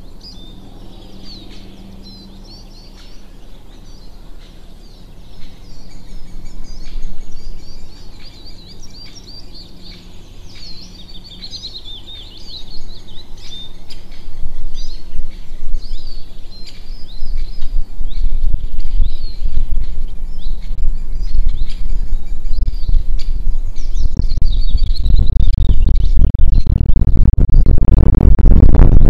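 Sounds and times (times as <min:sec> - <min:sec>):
small birds chirping: 0:00.0 - 0:28.0
low uneven rumble: 0:00.0 - 0:29.0.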